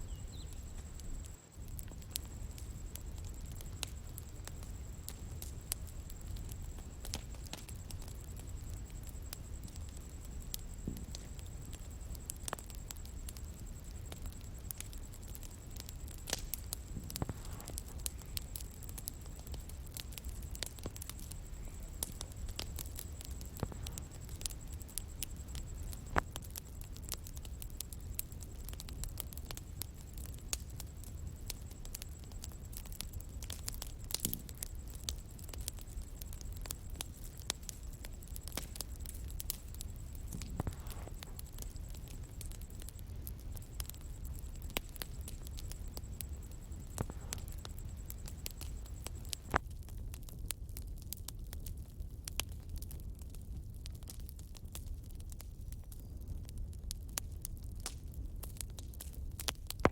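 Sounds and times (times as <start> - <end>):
bonfire crackling: 0.0 - 59.9
low rumble of burning wood: 0.0 - 59.9.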